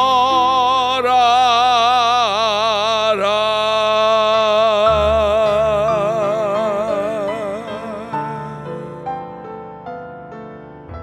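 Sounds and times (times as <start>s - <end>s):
man singing long note with vibrato: 0.0s - 9.3s
piano accompaniment: 0.0s - 11.0s.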